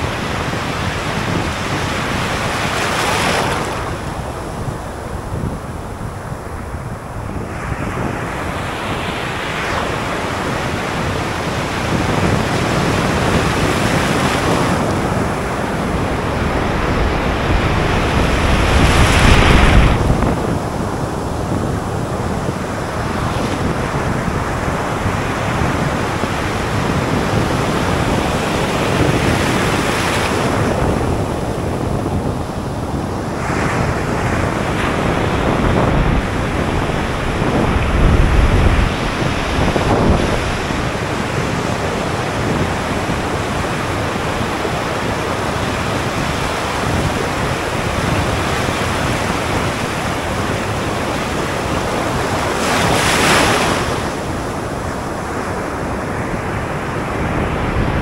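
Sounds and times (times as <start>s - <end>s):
rush of water: 0.0s - 58.0s
waves breaking and washing: 0.0s - 58.0s.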